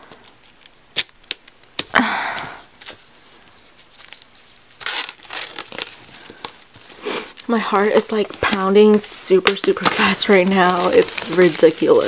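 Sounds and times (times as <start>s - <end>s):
plastic wrap crinkling and tearing: 0.0s - 2.0s, 2.6s - 12.0s.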